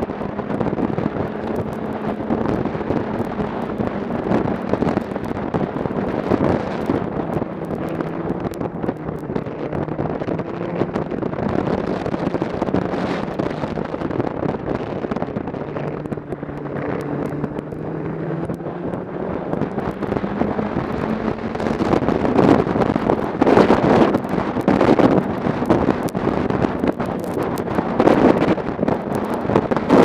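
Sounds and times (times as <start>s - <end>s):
snowmobile engine running: 0.0s - 30.0s
wind buffeting microphone: 0.0s - 30.0s.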